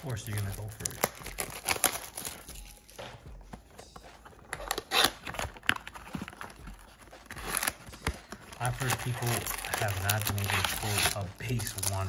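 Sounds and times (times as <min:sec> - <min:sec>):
plastic wrap rustling: 0:00.0 - 0:03.0, 0:04.3 - 0:12.0
crinkling scrape: 0:00.0 - 0:12.0.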